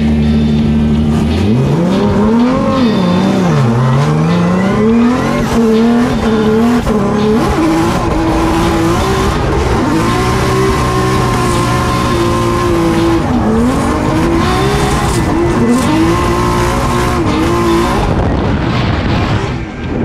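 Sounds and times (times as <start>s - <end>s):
car engine revving: 0.0s - 20.0s
tire squeal: 0.0s - 20.0s.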